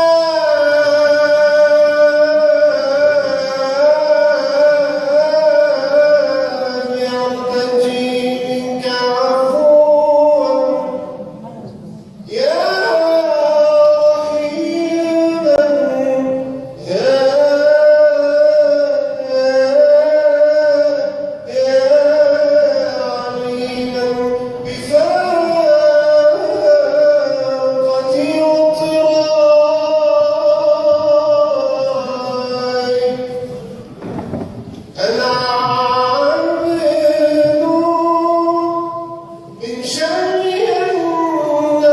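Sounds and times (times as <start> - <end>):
man singing unaccompanied: 0.0 - 11.4, 12.2 - 33.9, 34.8 - 41.9.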